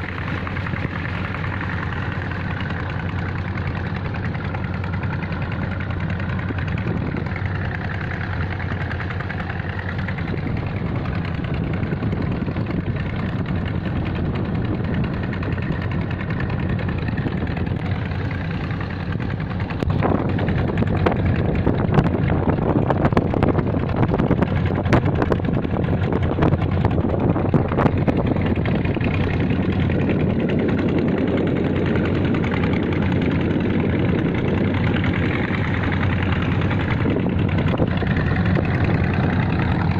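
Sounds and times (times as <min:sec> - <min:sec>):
boat engine humming: 0:00.0 - 0:39.9.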